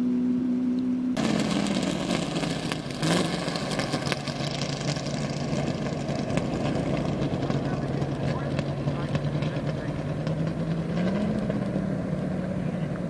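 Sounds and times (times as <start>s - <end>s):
race vehicle engines idling: 0.0s - 13.0s.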